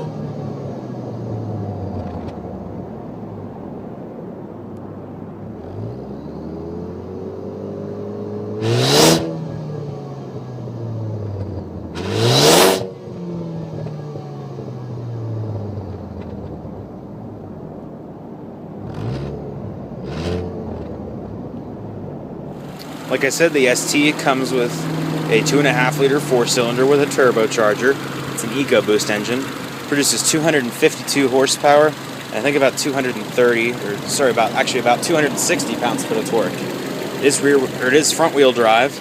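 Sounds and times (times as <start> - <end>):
car engine idling and revving: 0.0 - 39.0.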